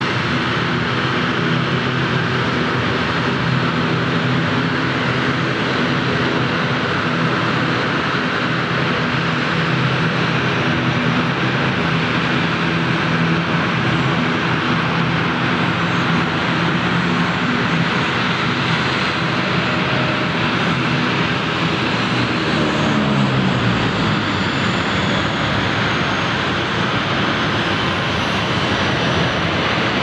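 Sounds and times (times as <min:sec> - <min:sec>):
jet airliner engines droning: 0:00.0 - 0:30.0.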